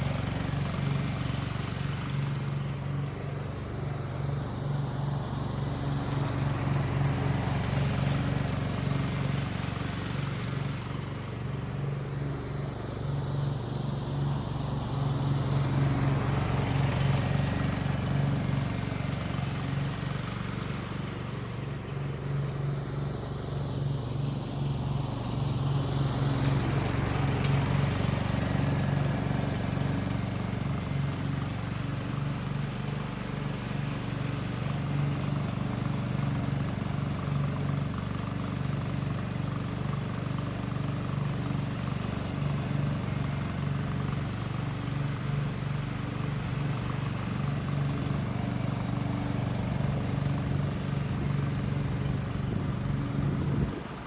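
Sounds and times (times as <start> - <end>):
ride-on mower engine running: 0.0 - 54.0.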